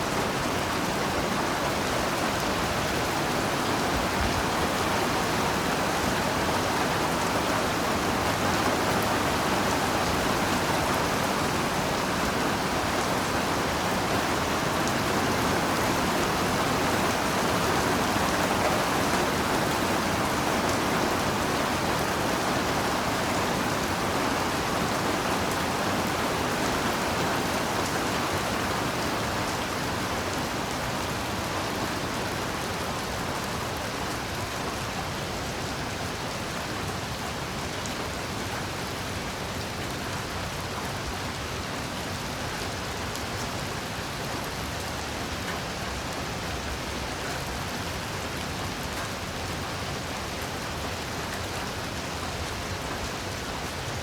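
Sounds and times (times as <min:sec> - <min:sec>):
heavy rain on leaves and ground: 0:00.0 - 0:54.0.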